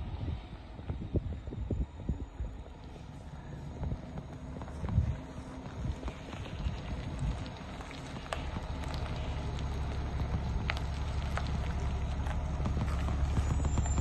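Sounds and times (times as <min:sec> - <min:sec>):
motorhome engine rumbling: 0:00.0 - 0:14.0.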